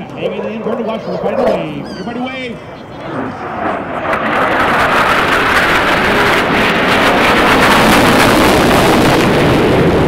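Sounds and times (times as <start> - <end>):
fighter jet flying past: 0.1 - 10.0.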